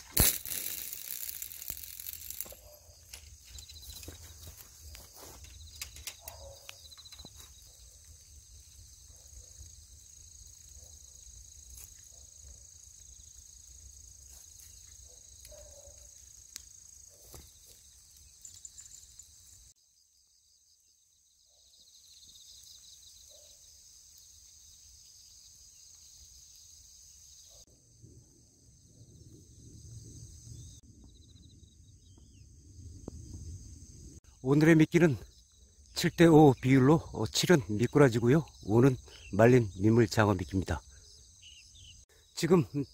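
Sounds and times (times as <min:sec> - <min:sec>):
insects chirping and trilling: 0:00.0 - 0:42.9.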